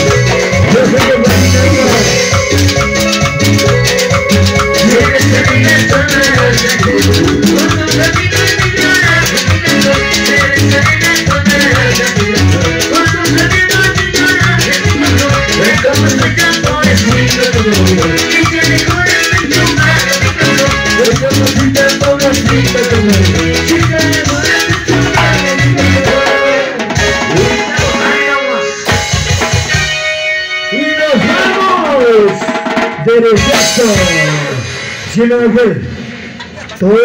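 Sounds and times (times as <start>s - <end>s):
loud latin dance music: 0.0s - 37.0s.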